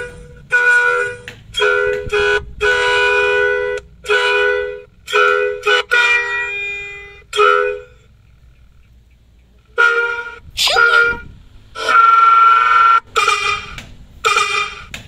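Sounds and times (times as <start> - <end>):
melody truck horn playing tune: 0.0 - 8.1, 9.7 - 14.9.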